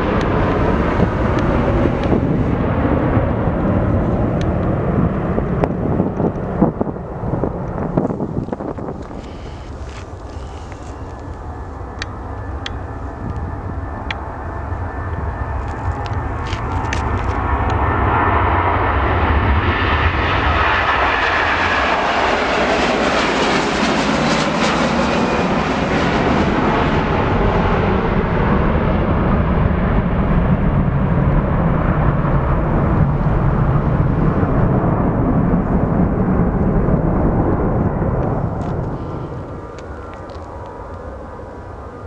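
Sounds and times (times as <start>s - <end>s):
jet airliner engine passing: 0.0s - 42.0s.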